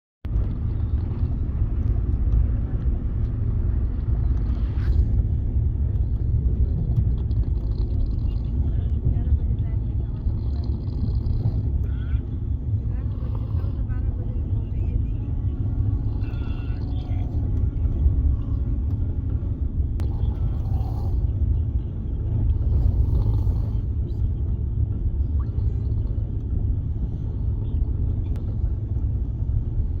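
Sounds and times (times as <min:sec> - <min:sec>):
train rumbling on rails: 0:00.3 - 0:30.0.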